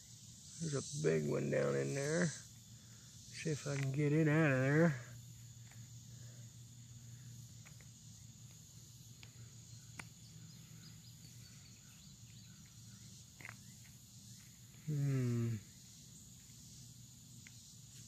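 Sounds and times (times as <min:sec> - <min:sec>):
faint insect drone: 0:00.0 - 0:18.0.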